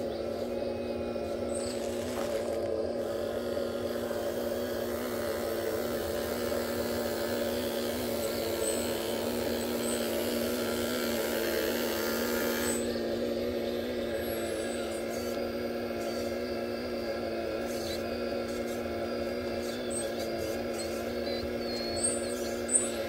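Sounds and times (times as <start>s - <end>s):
toy excavator electric motor whine: 0.0s - 23.0s.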